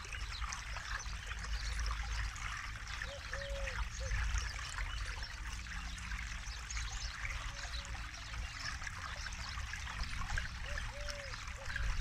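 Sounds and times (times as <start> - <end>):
low water rush: 0.0 - 12.0.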